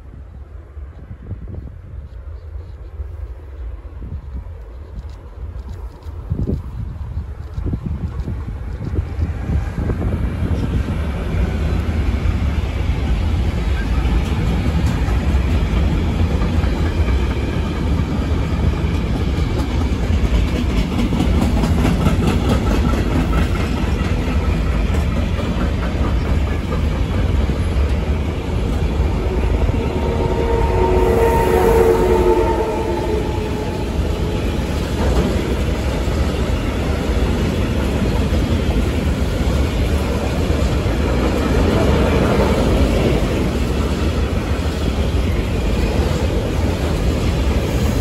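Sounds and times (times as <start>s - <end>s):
freight wagons rumbling on rail: 0.0s - 48.0s.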